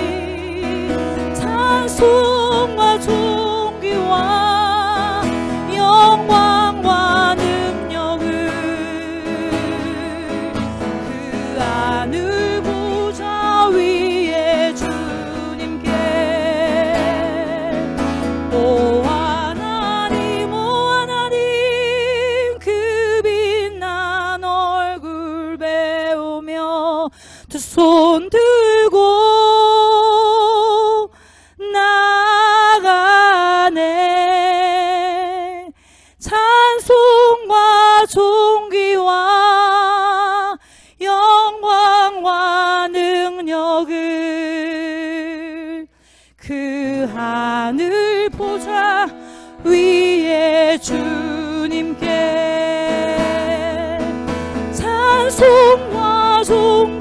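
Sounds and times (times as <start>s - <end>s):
acoustic guitar: 0.0s - 57.0s
woman singing with vibrato: 0.0s - 57.0s.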